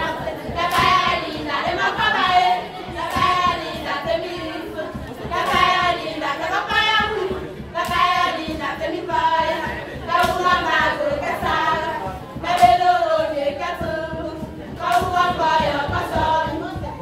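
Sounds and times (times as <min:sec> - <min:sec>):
group singing a chant: 0:00.0 - 0:17.0
sharp percussive beat: 0:00.0 - 0:17.0.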